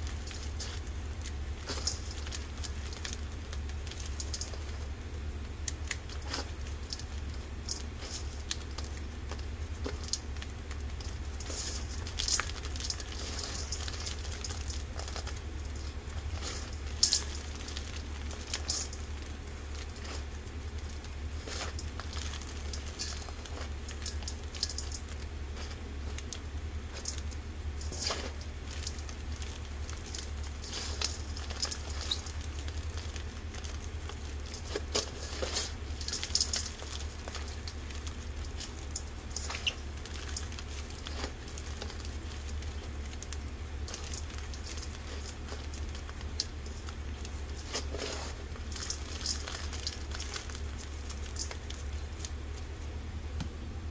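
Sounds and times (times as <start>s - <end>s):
chalk crunching in metal bowl: 0.0s - 53.0s
steady low hum: 0.0s - 53.9s.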